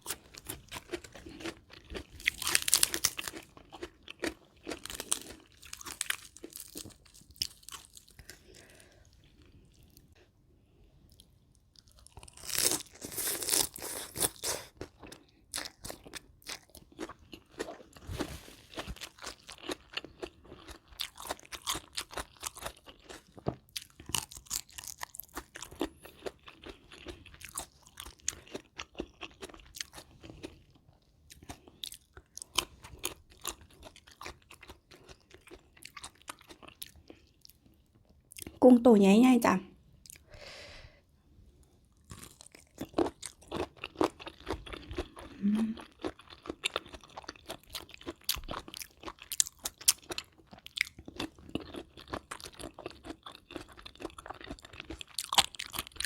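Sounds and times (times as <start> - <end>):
person chewing food: 0.0 - 38.6, 40.0 - 56.0.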